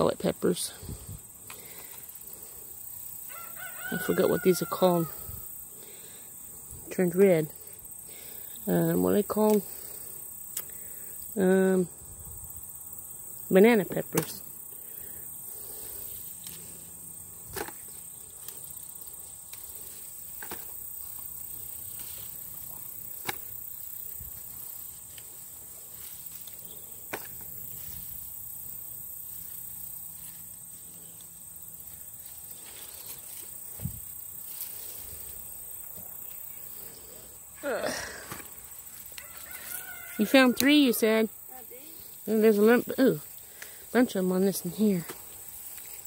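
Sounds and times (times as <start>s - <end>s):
insects singing: 0.0s - 46.0s.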